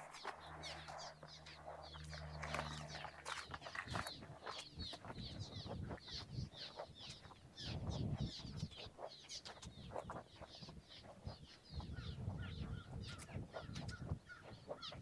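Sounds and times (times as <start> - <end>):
birds chirping in chorus: 0.0 - 15.0.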